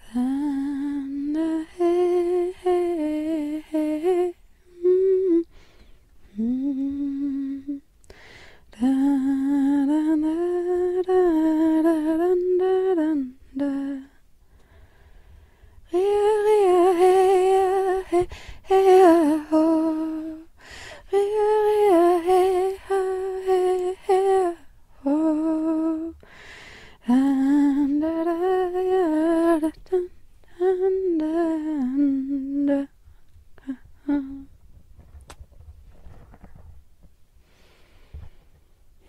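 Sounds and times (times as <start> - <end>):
person humming a slow melody: 0.0 - 14.2, 15.9 - 26.4, 27.0 - 33.0, 33.6 - 34.5.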